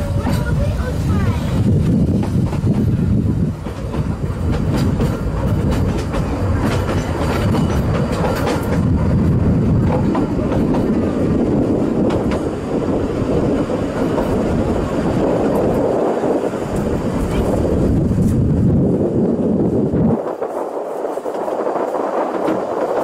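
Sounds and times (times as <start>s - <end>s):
train carriage rumbling: 0.0s - 23.0s.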